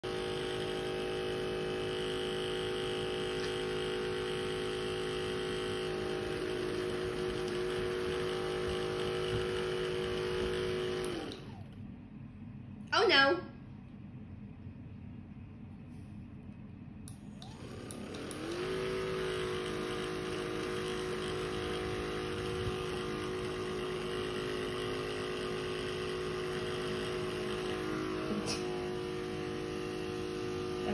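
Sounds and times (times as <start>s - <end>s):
massage gun buzzing hum: 0.0s - 11.8s, 17.1s - 30.9s.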